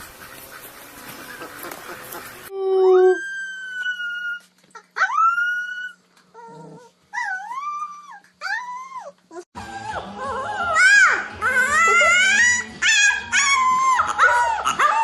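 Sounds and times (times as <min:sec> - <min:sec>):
dog howling whines: 0:02.5 - 0:15.0.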